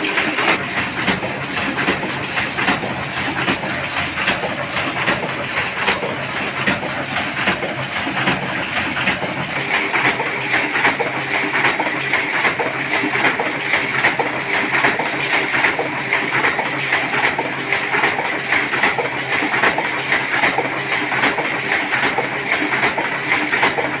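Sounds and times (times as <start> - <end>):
printing press clattering: 0.0 - 24.0.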